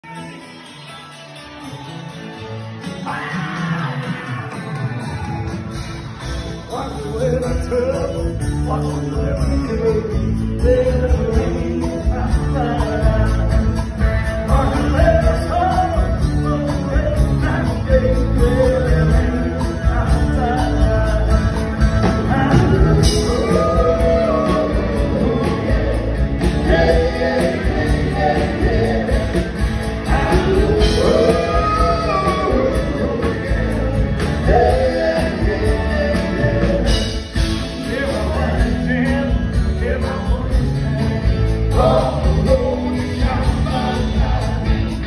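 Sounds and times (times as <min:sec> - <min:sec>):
live rock band playing: 0:00.0 - 0:45.0
lead vocal singing: 0:02.8 - 0:05.6, 0:06.6 - 0:45.0.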